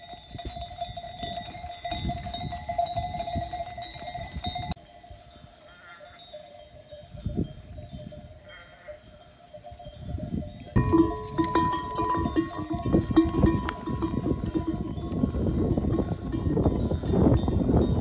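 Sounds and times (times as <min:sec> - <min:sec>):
sheep bells ringing: 0:00.0 - 0:18.0.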